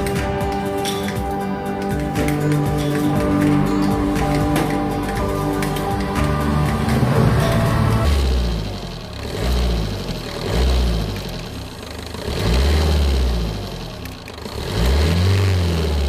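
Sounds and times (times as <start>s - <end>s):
car engine revving: 2.2s - 16.0s.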